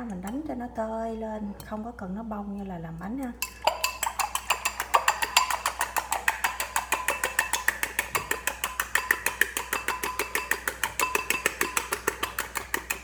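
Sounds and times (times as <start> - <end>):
fork beating eggs in a bowl: 1.4 - 13.0.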